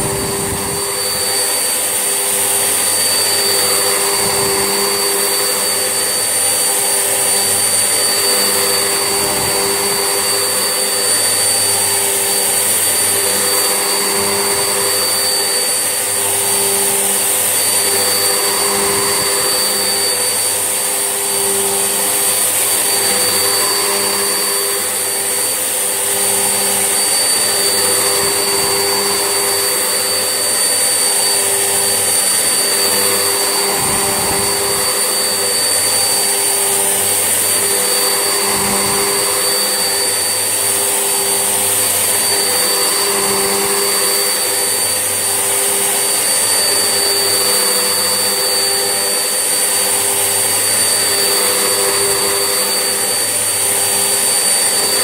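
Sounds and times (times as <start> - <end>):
vacuum cleaner whining: 0.0 - 55.0.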